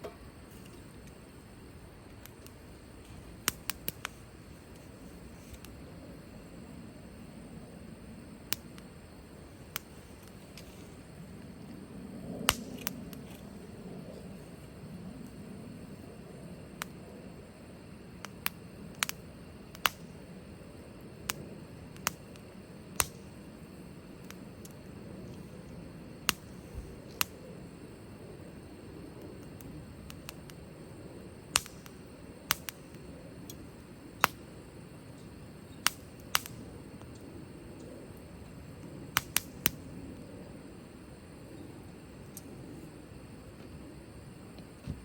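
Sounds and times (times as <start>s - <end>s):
firewood crackling and popping: 0.0s - 40.3s
low rush of flame: 0.0s - 45.0s.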